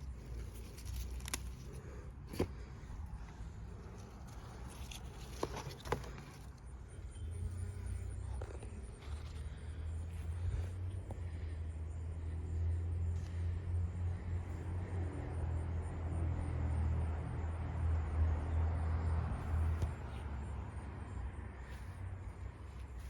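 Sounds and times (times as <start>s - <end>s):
motor vehicle passing: 1.6s - 23.0s.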